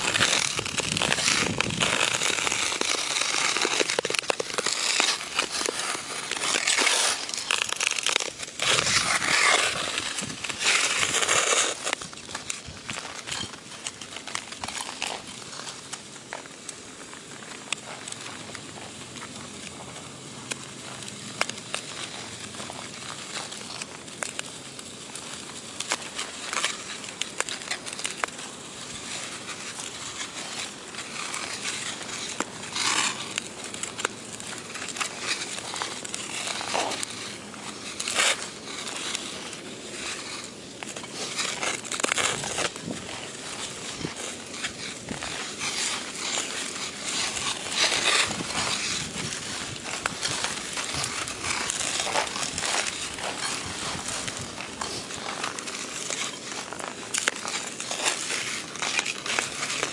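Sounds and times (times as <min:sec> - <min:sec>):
skate blades gliding on ice: 0:00.0 - 0:59.9
skate scrapes on ice: 0:00.0 - 0:59.9.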